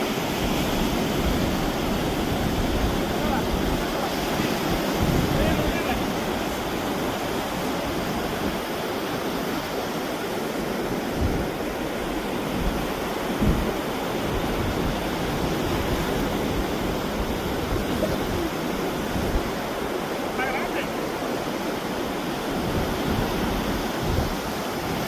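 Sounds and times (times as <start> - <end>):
surf washing in: 0.0 - 25.0
wind buffeting the microphone: 0.0 - 25.0.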